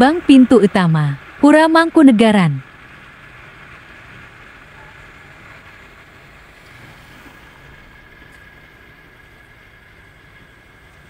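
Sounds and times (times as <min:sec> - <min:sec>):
faint street traffic: 0:00.0 - 0:11.0.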